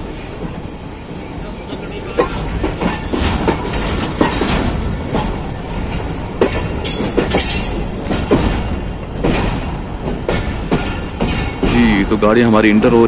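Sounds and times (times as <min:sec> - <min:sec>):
train rumbling: 0:00.0 - 0:13.0
wheels clacking over rail joints: 0:00.0 - 0:13.0.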